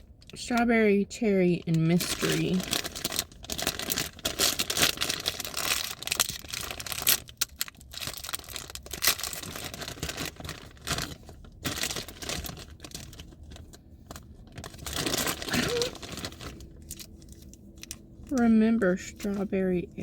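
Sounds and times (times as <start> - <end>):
candy wrapper crinkling and tearing: 1.6 - 18.4.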